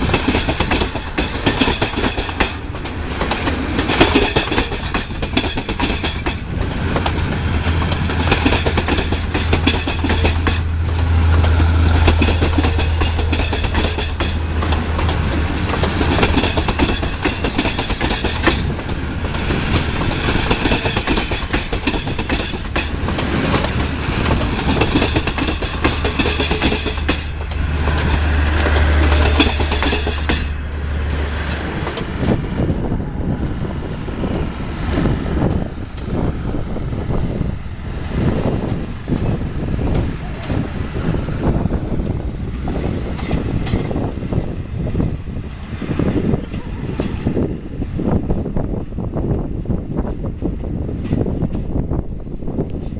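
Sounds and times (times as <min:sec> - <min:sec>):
dense rolling noise: 0:00.0 - 0:51.4
train wheels clicking over rails: 0:00.0 - 0:52.9.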